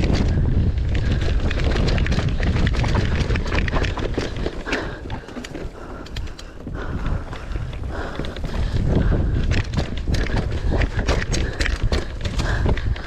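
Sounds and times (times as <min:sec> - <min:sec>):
bike rattling over bumps: 0:00.0 - 0:13.0
bike tyres rumbling on dirt: 0:00.0 - 0:13.0.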